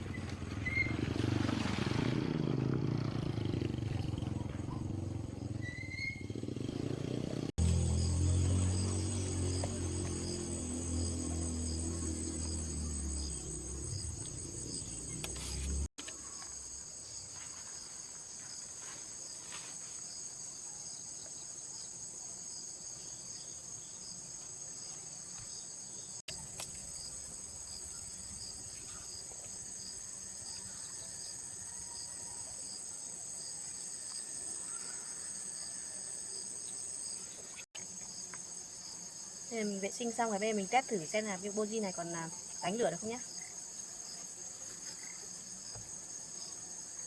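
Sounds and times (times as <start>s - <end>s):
insects chirring: 4.0s - 18.6s, 22.5s - 47.0s.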